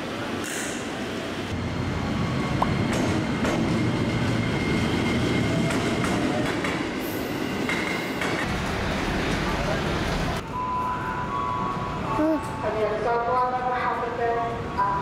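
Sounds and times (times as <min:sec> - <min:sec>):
light-rail train rumbling: 0:00.0 - 0:15.0.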